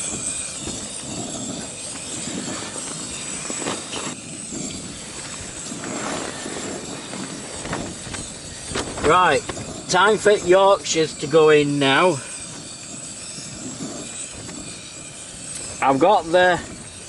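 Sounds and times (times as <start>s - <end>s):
camping stove hissing: 0.0s - 17.0s.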